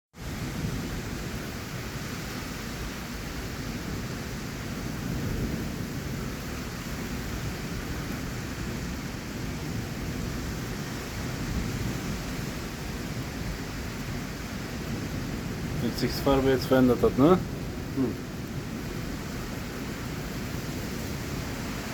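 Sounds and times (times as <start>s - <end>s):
heavy rain falling: 0.2s - 21.9s.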